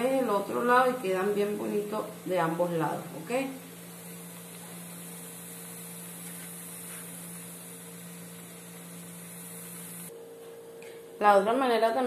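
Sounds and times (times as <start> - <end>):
dough sizzling in hot oil: 0.0 - 10.1
low electrical hum: 0.0 - 12.0.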